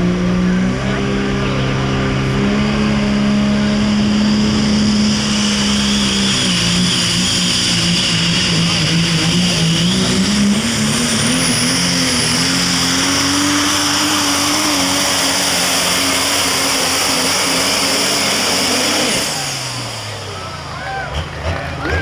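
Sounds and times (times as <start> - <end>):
diesel truck engine at full load: 0.0 - 22.0.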